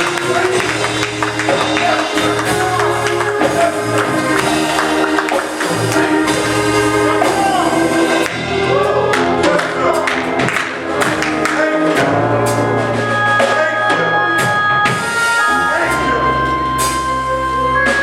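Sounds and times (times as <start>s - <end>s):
gospel music: 0.0s - 18.0s
singing voices: 0.0s - 18.0s.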